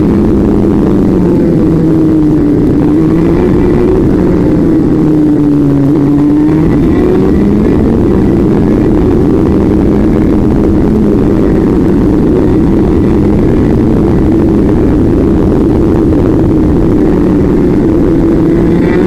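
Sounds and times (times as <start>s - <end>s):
dense rushing noise: 0.0s - 19.0s
engine running steadily: 0.0s - 19.0s.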